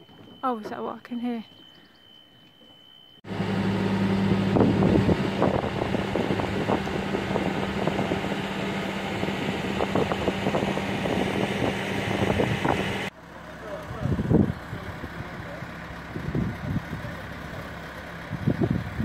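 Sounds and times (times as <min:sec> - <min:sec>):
engine idling: 0:03.3 - 0:19.0.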